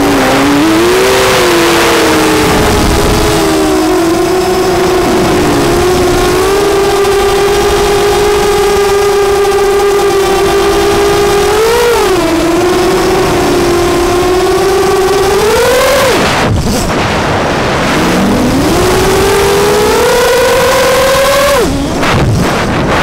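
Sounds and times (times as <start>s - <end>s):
rushing air: 0.0s - 10.0s, 10.7s - 23.0s
drone motors buzzing whine: 0.0s - 23.0s.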